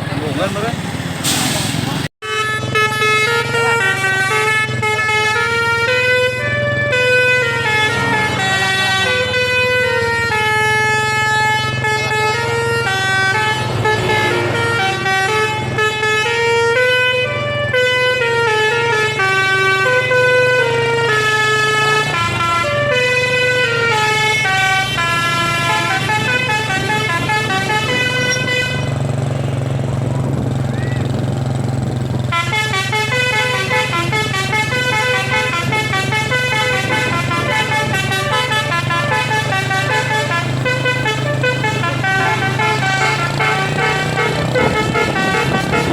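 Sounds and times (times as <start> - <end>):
multi-tone air horn melody: 2.2 - 29.6, 32.2 - 45.9.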